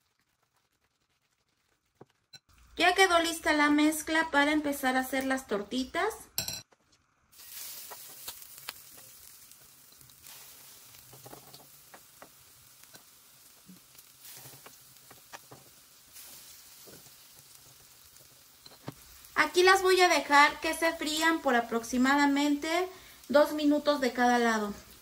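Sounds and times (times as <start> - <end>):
food sizzling in hot oil: 0.0 - 6.6, 7.3 - 25.0.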